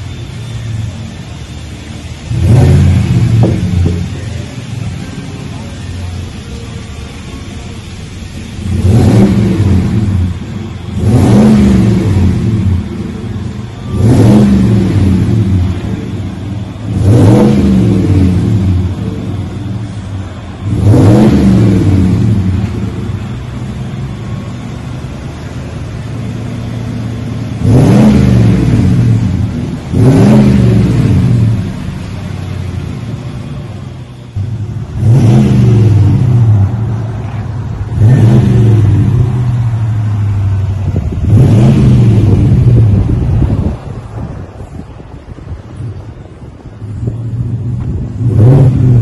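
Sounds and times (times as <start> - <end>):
engine idling: 0.0 - 49.0
truck engine revving: 0.0 - 49.0.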